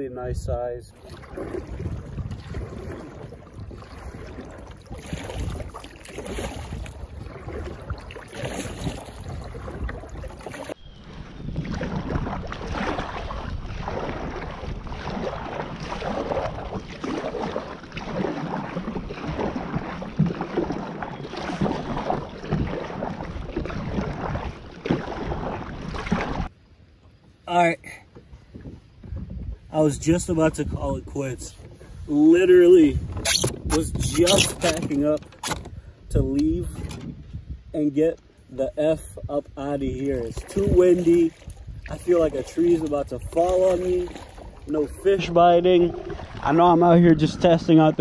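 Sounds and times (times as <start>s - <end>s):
wind rumbling on microphone: 0.0s - 27.4s, 28.2s - 48.0s
paddle splashing through water: 0.9s - 27.4s, 31.4s - 37.4s, 39.8s - 48.0s.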